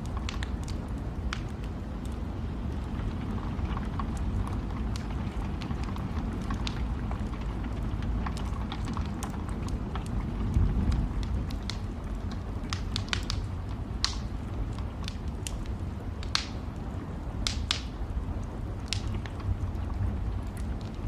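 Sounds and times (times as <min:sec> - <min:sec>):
sharp fire snaps: 0:00.0 - 0:21.0
wood fire crackling: 0:00.0 - 0:21.0.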